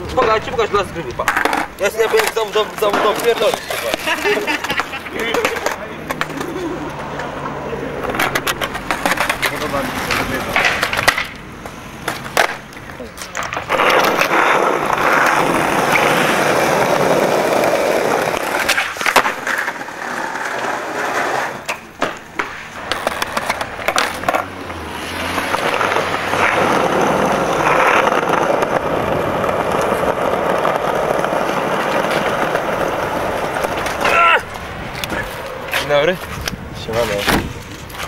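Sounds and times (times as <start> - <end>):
skateboard clacks: 0.0 - 38.0
skateboard wheels rolling on bricks: 0.0 - 38.0.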